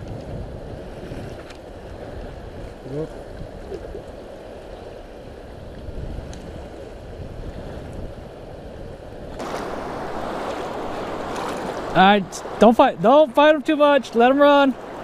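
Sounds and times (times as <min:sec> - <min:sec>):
wind on microphone: 0:00.0 - 0:12.6
river water rushing: 0:00.8 - 0:15.0.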